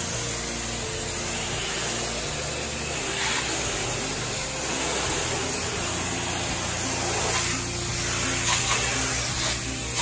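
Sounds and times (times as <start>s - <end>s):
pressure washer machine running: 0.0s - 10.0s
pressure washer spray hissing: 0.0s - 10.0s.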